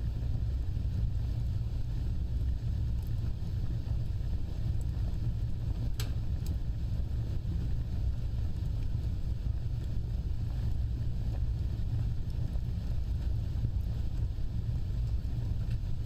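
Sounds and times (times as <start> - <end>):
fire crackles and pops: 0.0 - 16.0
fire roaring: 0.0 - 16.0.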